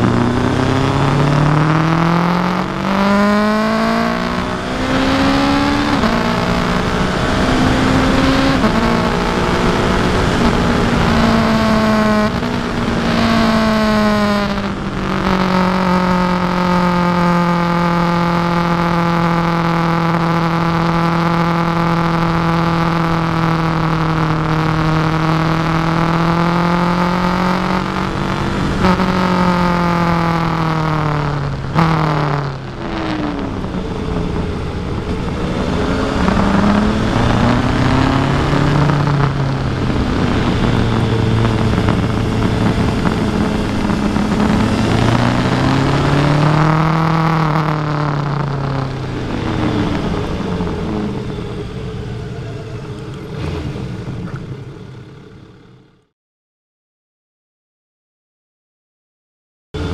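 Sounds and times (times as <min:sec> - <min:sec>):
motorcycle engine revving: 0:00.0 - 0:56.1.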